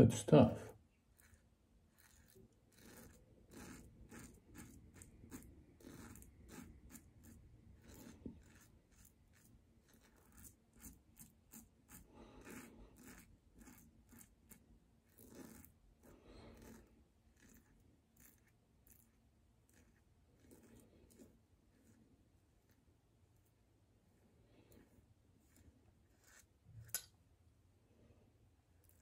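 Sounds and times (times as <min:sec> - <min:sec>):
razor scratching stubble: 0:01.1 - 0:23.5, 0:24.2 - 0:27.1, 0:28.8 - 0:29.0.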